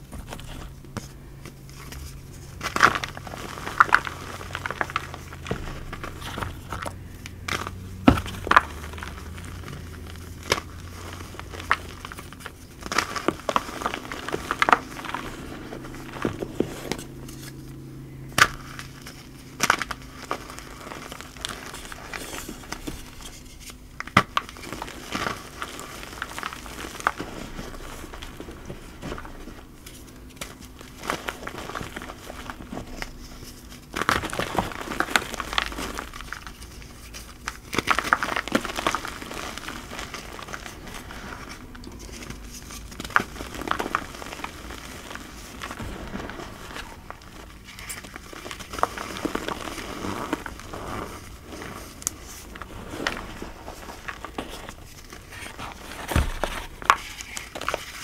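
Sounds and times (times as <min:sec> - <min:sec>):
crunchy cornstarch powder crackles: 0:00.0 - 0:58.0
cornstarch block breaking apart: 0:02.6 - 0:17.2, 0:18.3 - 0:58.0.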